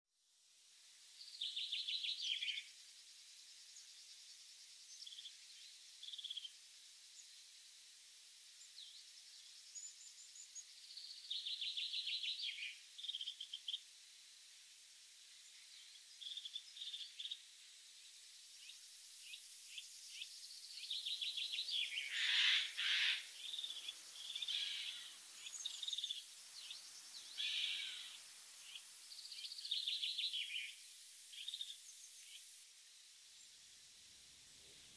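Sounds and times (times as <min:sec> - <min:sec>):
steady high hiss: 0:00.2 - 0:34.9
small birds singing: 0:01.2 - 0:07.4, 0:08.6 - 0:13.9, 0:15.2 - 0:32.6.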